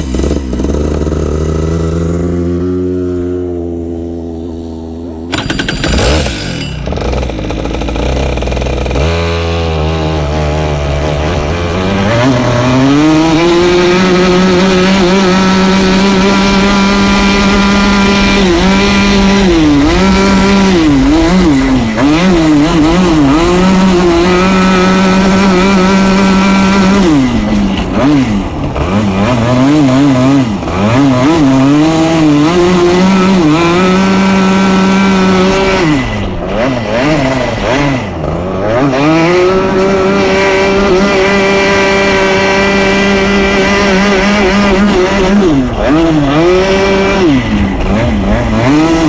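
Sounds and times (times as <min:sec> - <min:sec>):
kart engine idling and revving: 0:00.0 - 0:49.0.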